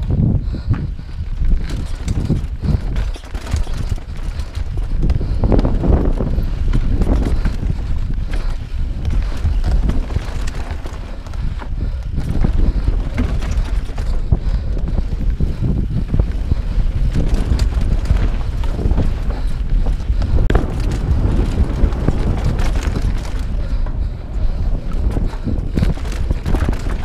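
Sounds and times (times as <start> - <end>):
mountain bike rattling and knocking: 0.0 - 27.0
wind buffeting microphone: 0.0 - 27.0.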